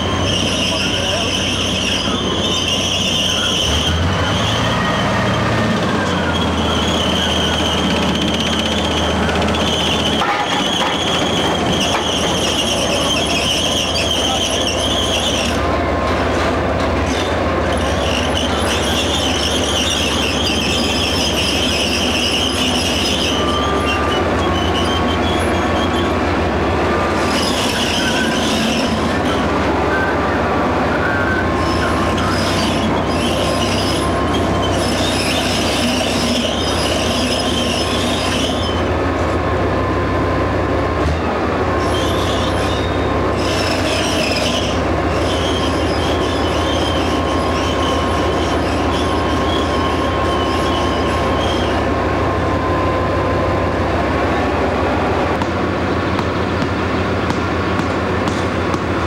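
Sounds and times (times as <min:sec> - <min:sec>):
tracks squealing and clattering: 0:00.0 - 0:39.3, 0:41.0 - 0:54.0.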